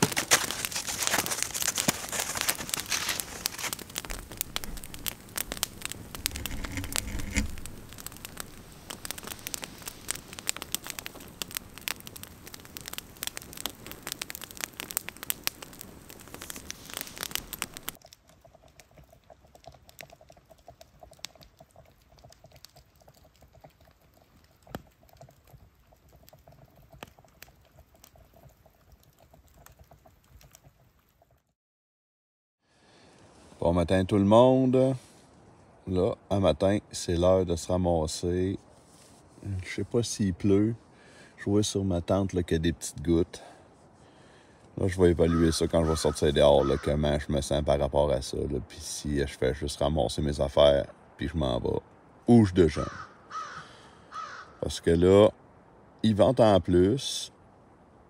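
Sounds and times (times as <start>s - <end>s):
campfire crackling and popping: 0.0s - 31.5s, 39.4s - 58.0s.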